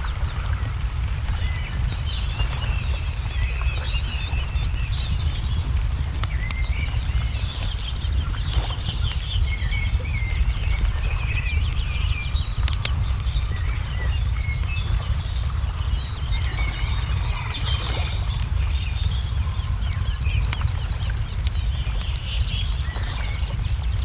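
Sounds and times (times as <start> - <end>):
low rumble: 0.0 - 24.0
songbirds chirping: 0.0 - 24.0
wood fire crackling: 0.0 - 24.0.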